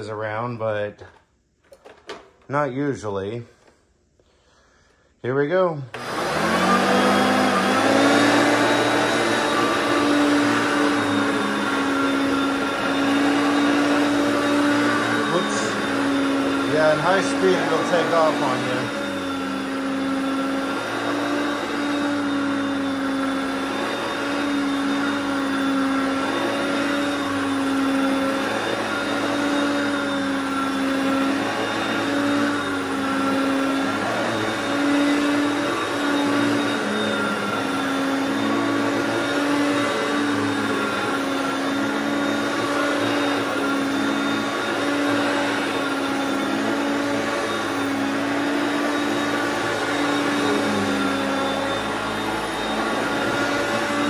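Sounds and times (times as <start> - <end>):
vacuum cleaner motor hum: 5.8 - 54.0.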